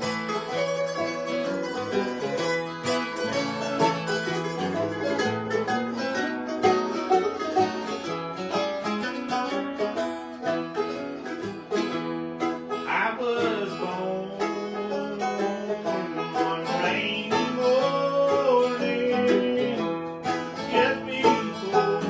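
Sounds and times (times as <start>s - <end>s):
bluegrass string picking: 0.0s - 22.0s.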